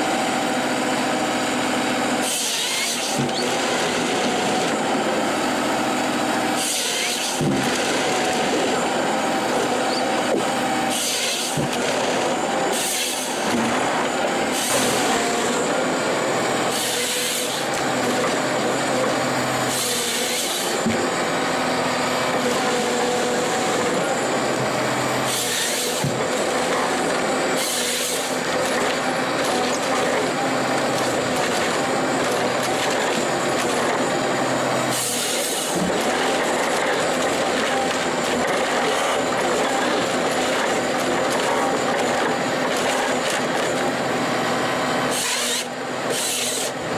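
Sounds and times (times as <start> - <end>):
saw cutting through wood: 0.0 - 46.9
harvester engine running: 3.1 - 6.6, 7.2 - 46.1.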